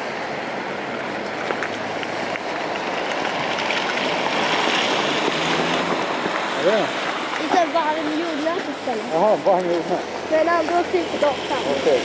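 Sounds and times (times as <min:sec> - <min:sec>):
traffic hiss on wet road: 0:00.0 - 0:12.0.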